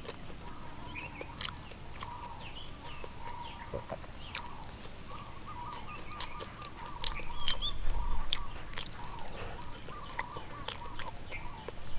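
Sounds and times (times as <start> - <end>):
crunching fried chicken: 0.0 - 11.9.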